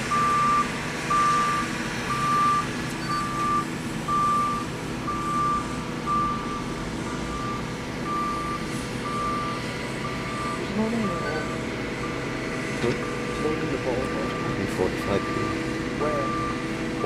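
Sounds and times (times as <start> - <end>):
backup alarm beeping: 0.0 - 12.3, 13.0 - 17.0
excavator diesel engine running: 0.0 - 17.0.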